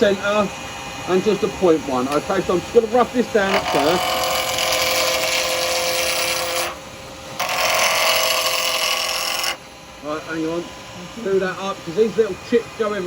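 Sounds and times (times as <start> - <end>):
lathe chisel cutting with whine: 0.0 - 13.0.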